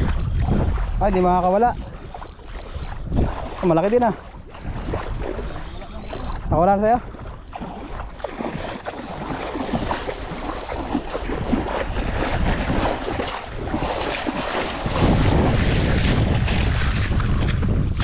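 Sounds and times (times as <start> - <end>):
seawater splashing: 0.0 - 18.0
wind rumble on microphone: 0.0 - 18.0.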